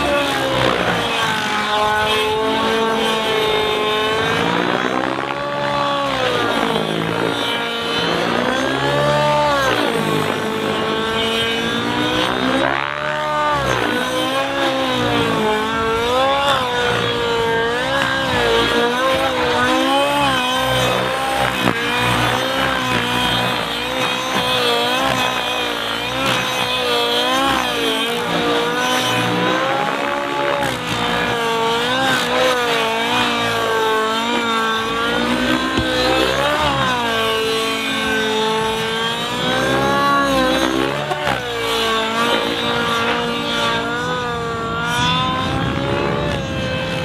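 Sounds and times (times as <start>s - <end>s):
model helicopter engine at high revs: 0.0s - 47.0s.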